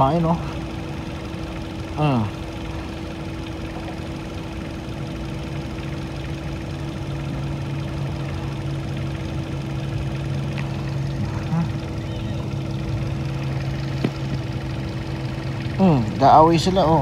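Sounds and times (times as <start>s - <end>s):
lower motor tone: 0.0s - 17.0s
motor idling hum: 0.0s - 17.0s.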